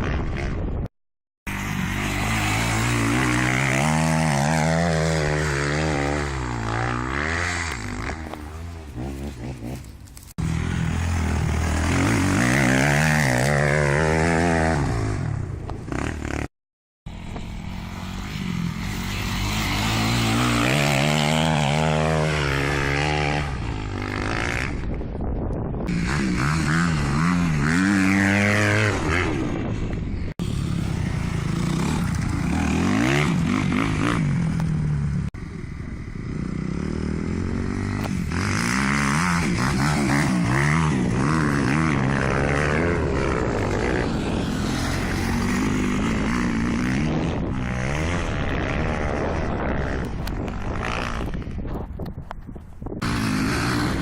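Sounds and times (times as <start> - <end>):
motocross bike engines revving: 1.5 - 16.5, 17.1 - 25.1, 25.8 - 51.7, 53.0 - 54.0.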